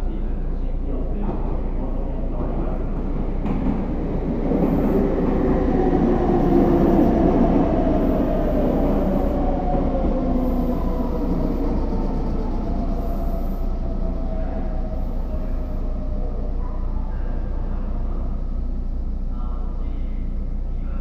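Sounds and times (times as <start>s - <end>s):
electric train arriving: 1.3s - 18.8s.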